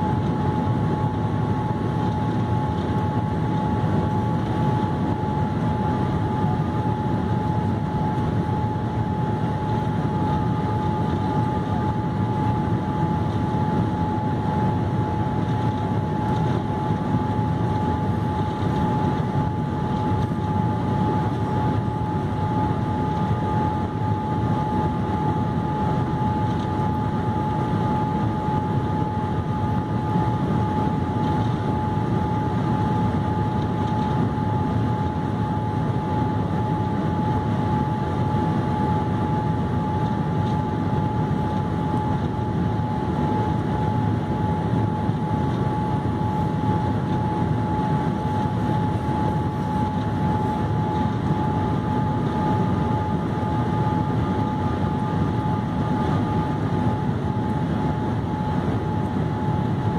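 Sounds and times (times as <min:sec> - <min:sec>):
airliner cabin engine rush: 0:00.0 - 0:59.9
steady high whine: 0:00.0 - 0:59.9.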